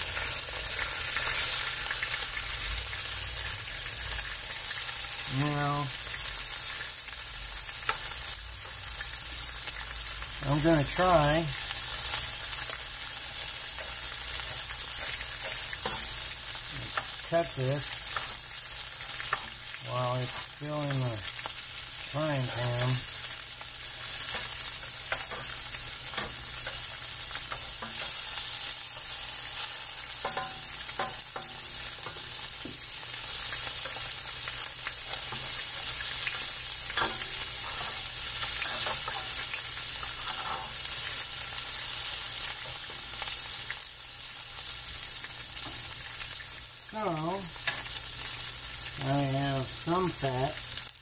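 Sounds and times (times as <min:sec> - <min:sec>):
meat sizzling in a frying pan: 0:00.0 - 0:51.0.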